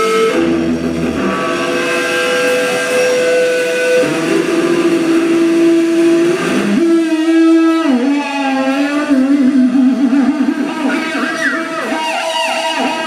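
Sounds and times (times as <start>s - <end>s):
electric guitar sustained notes: 0.0s - 13.0s
live heavy metal music: 0.0s - 13.0s.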